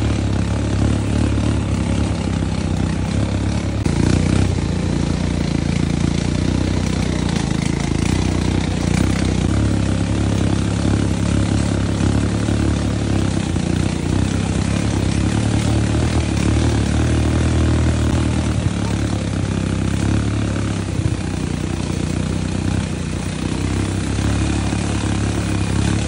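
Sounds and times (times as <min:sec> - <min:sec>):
atv engines running steadily: 0:00.0 - 0:26.0.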